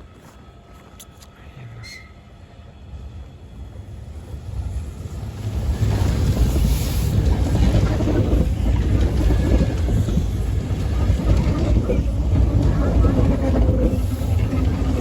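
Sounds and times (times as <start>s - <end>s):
electric train rumbling past: 1.6s - 15.0s.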